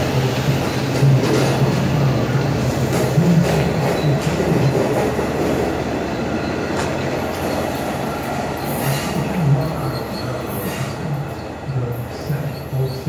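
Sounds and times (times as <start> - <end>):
wheels clacking over rail joints: 0.0 - 11.4
train wheels rumbling on rails: 0.0 - 13.0.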